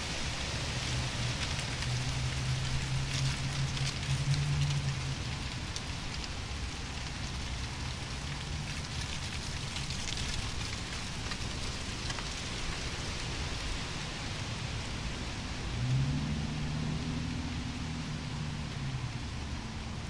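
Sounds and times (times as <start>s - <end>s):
wind rustling leaves: 0.0s - 20.0s.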